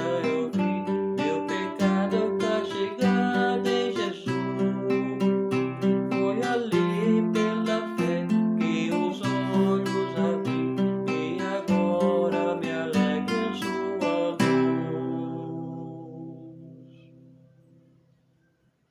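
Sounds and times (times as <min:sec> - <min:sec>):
acoustic guitar strumming: 0:00.0 - 0:18.7.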